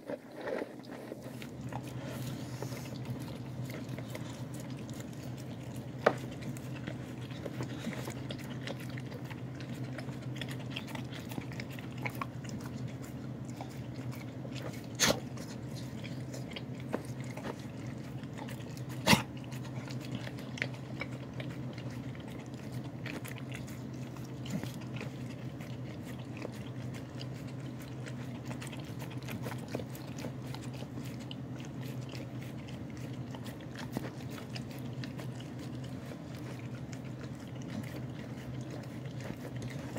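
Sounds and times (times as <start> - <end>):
dog licking and chewing: 0.0 - 39.9.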